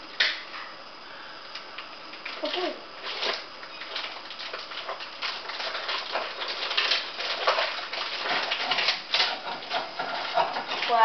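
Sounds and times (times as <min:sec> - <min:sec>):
frying pan sizzling and crackling: 0:01.6 - 0:11.0.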